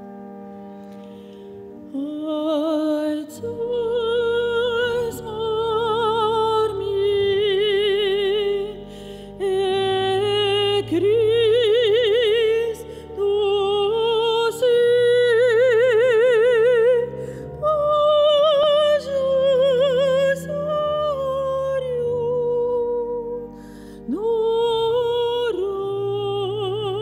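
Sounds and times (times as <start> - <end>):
soft low accompaniment: 0.0 - 27.0
woman singing with vibrato: 1.9 - 23.4, 24.1 - 27.0.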